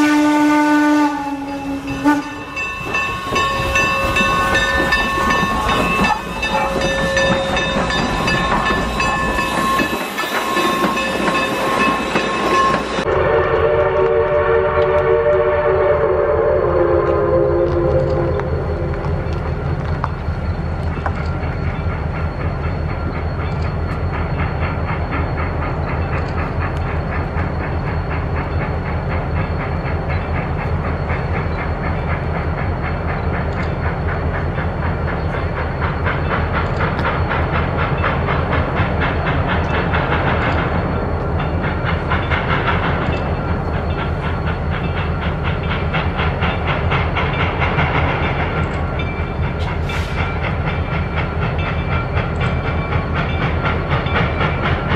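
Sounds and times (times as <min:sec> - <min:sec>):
steam hissing: 0:00.0 - 0:54.9
steam locomotive exhaust chuffing: 0:00.0 - 0:54.9.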